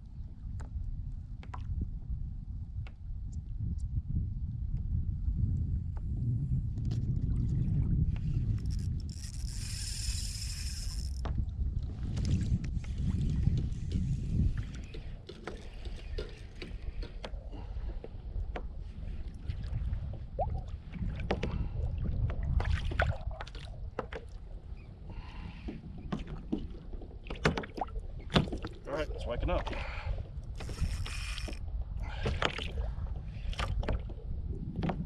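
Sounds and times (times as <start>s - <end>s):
water sloshing against hull: 6.7s - 35.0s.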